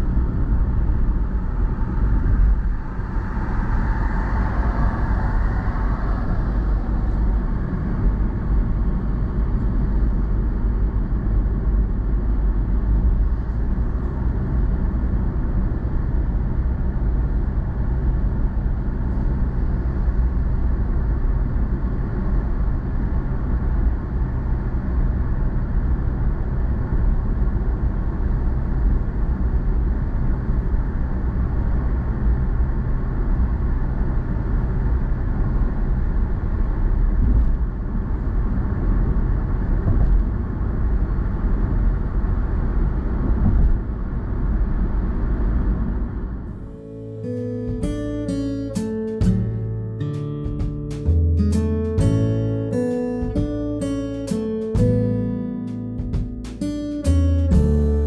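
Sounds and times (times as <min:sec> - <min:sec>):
car engine: 0:00.0 - 0:58.0
tyre road noise: 0:00.0 - 0:58.0.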